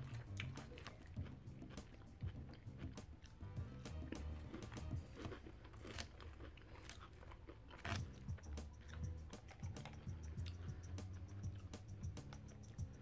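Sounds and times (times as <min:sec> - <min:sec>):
chewing salad: 0:00.0 - 0:13.0.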